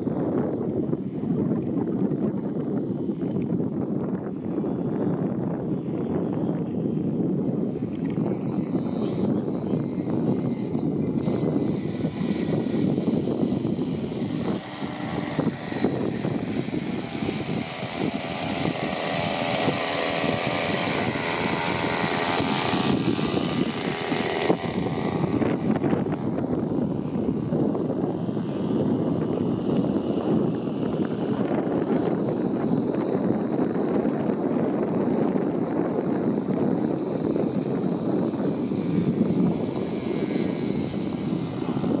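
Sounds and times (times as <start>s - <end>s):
model plane engine and propeller: 0.0s - 42.0s
wind buffeting microphone: 0.0s - 42.0s.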